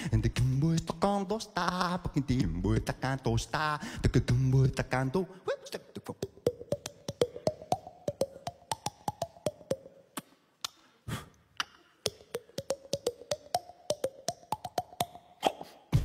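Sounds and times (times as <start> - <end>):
beatboxing mouth clicks and pops: 0.3 - 3.2, 4.0 - 15.9.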